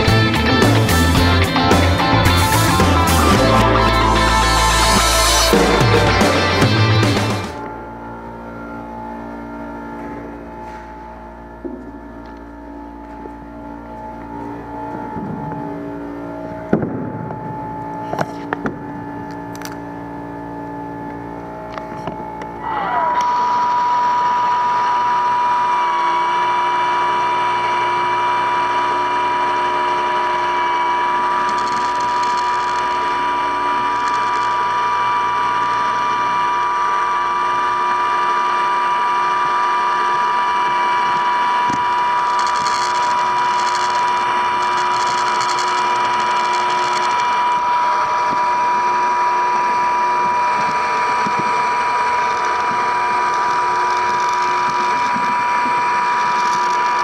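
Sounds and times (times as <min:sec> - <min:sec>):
machine motor whining: 0:00.0 - 0:57.0.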